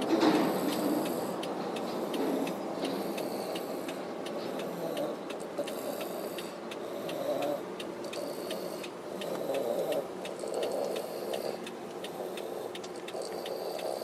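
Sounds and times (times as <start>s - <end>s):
toddler snoring: 2.1s - 14.0s.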